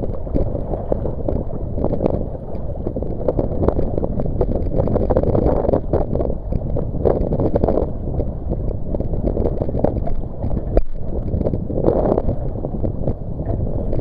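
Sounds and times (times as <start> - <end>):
choppy sea water: 0.0 - 14.0
wind buffeting microphone: 0.0 - 14.0.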